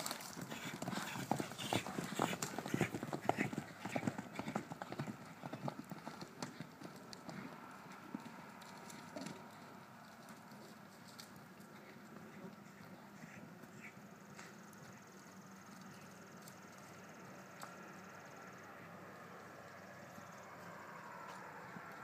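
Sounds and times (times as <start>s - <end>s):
horses galloping on dirt: 0.0s - 22.0s.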